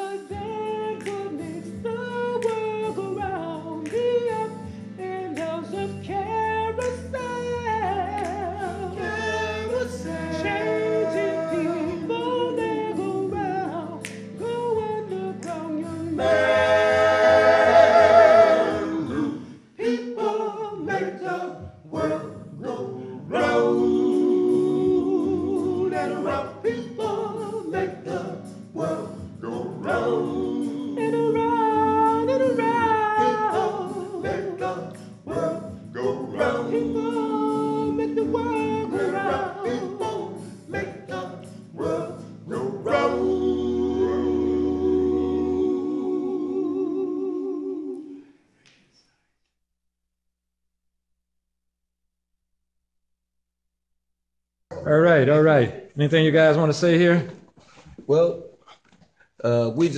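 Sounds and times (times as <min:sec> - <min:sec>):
male quartet singing a cappella: 0:00.0 - 0:48.3.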